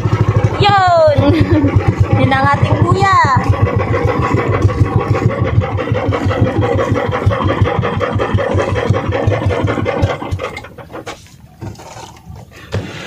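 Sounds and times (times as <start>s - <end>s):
boat engine thudding: 0.0s - 13.0s.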